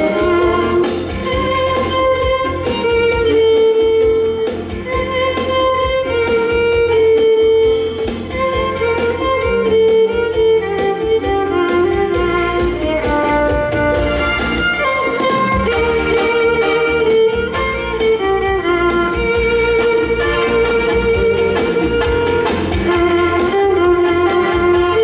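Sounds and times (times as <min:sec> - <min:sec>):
band with beat and bass: 0:00.0 - 0:25.0
violin melody: 0:00.0 - 0:25.0.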